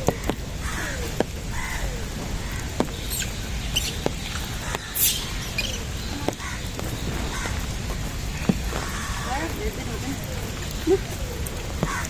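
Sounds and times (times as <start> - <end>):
rain pattering: 0.0 - 12.0
sharp drips: 0.0 - 12.0.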